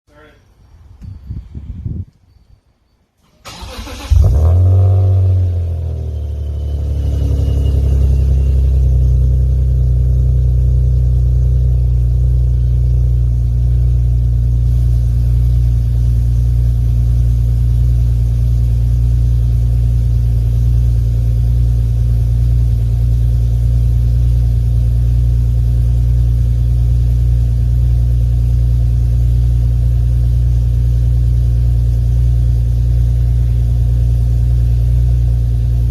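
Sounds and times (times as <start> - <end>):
car engine revving and idling: 3.5 - 35.9.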